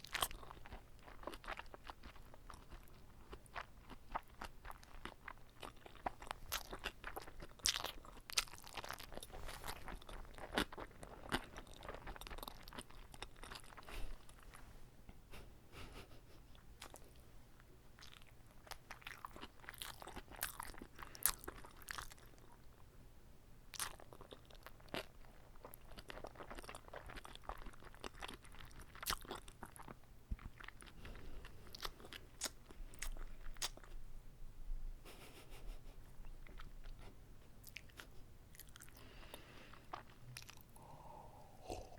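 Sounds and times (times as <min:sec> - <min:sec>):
chewing and biting food: 0:00.0 - 0:14.5, 0:18.0 - 0:22.6, 0:23.7 - 0:34.0, 0:36.3 - 0:40.8.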